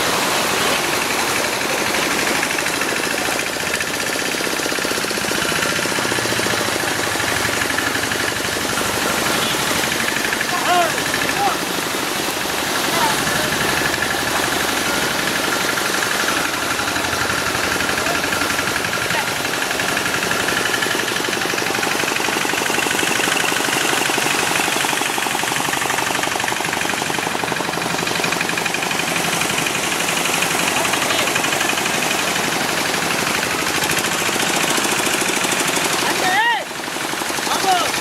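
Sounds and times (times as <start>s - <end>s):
boat engine knocking: 0.0s - 38.0s.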